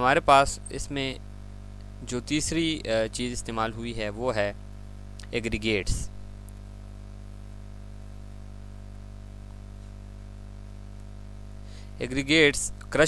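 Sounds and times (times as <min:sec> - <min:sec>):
electrical mains hum: 0:00.0 - 0:13.0
faint hiss: 0:00.0 - 0:13.0.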